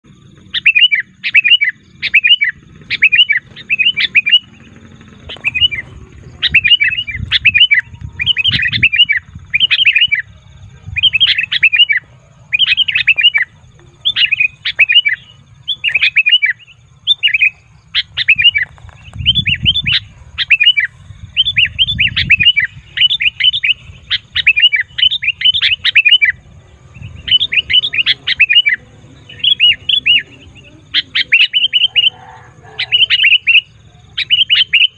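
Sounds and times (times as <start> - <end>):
bulbul bubbly chirping: 0.5 - 32.1.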